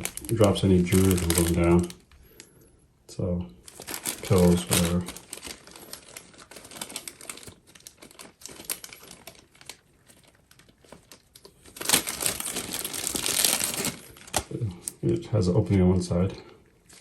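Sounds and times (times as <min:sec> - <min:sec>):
packaging crinkling: 0:00.0 - 0:02.6, 0:03.6 - 0:15.1, 0:16.5 - 0:17.0.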